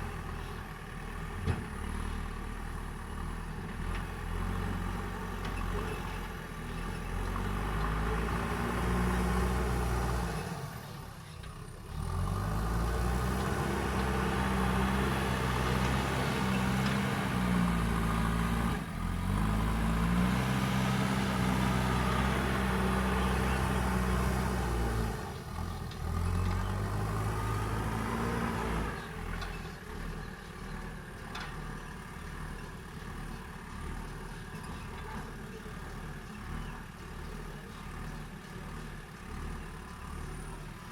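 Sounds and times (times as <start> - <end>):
heavy diesel engine under load: 0.0 - 40.9.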